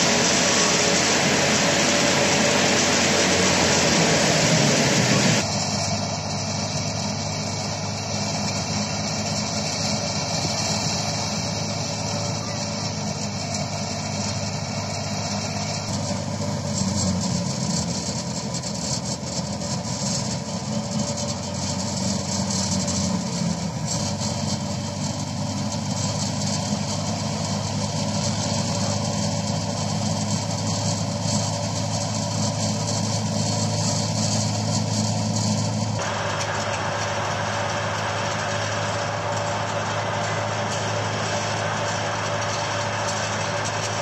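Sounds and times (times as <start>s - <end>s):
thresher machine drone: 0.0s - 44.0s.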